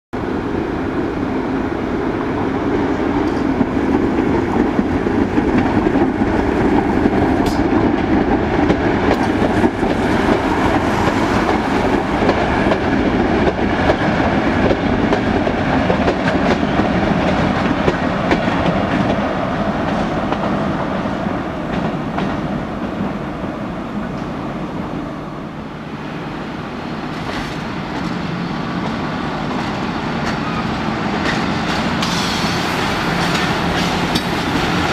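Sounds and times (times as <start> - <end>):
freight train wheels clickety-clack: 2.6 - 23.2, 27.0 - 34.9.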